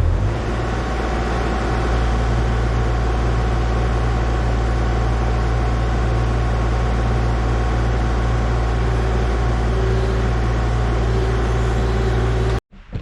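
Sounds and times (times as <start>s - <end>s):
loud mechanical drone: 0.0s - 12.6s.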